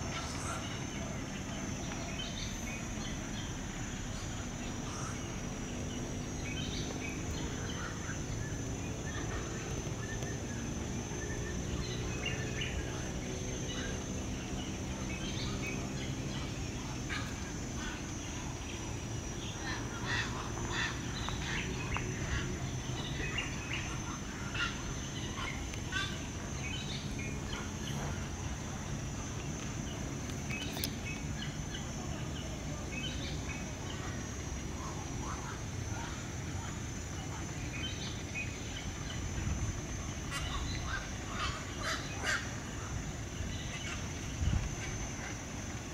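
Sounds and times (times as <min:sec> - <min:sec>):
birds chirping: 0:00.0 - 0:45.9
low background rumble: 0:00.0 - 0:45.9
steady high-pitched hum: 0:00.0 - 0:45.9.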